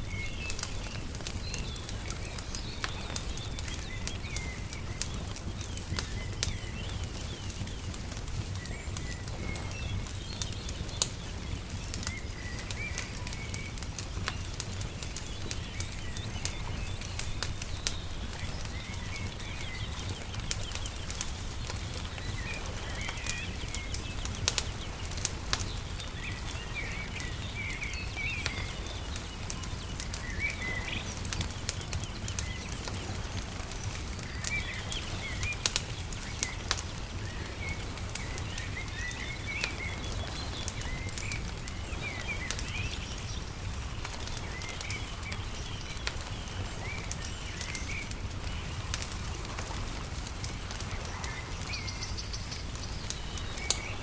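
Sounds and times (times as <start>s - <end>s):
small birds chirping: 0.0s - 54.0s
wood fire crackling and popping: 0.0s - 54.0s.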